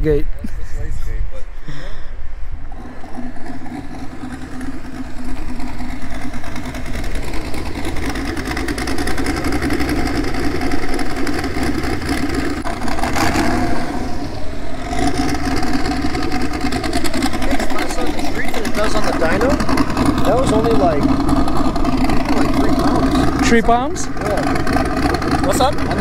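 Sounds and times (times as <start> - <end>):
car engine at low speed: 0.0 - 26.0.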